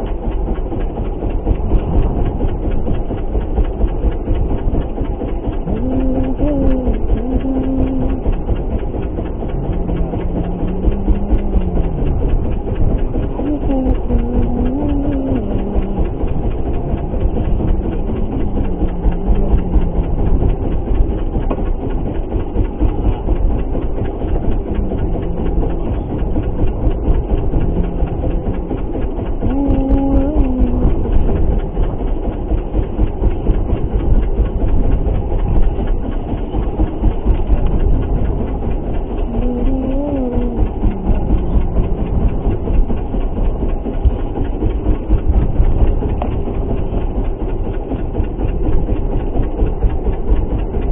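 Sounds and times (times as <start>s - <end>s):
boat engine rumbling: 0.0s - 50.9s
rough sea water: 0.0s - 50.9s
wind: 0.0s - 50.9s.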